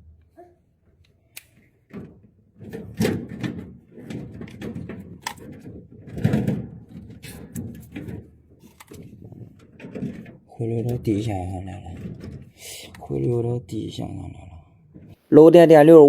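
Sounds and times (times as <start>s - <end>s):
clattering knocks and rustling: 0.0s - 13.9s, 14.6s - 15.3s.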